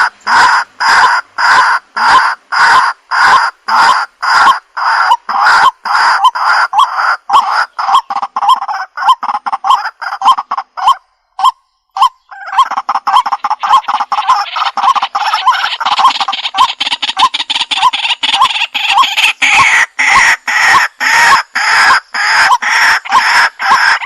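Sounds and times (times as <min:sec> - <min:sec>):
waterhen calling harsh notes: 0:00.0 - 0:24.0.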